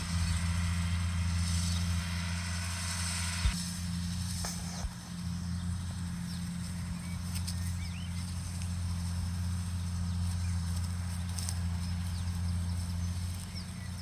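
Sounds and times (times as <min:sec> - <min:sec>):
distant tractor engine drone: 0:00.0 - 0:14.0.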